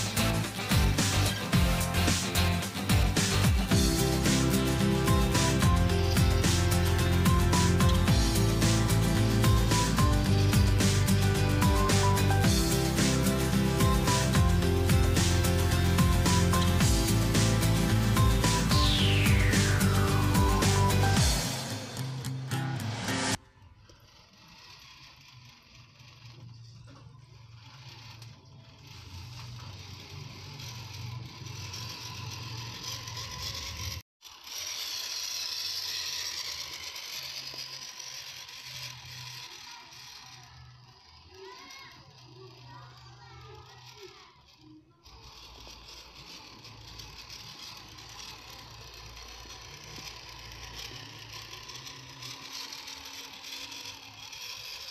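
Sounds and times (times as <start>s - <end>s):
toy car motor whirring: 0.0s - 54.9s.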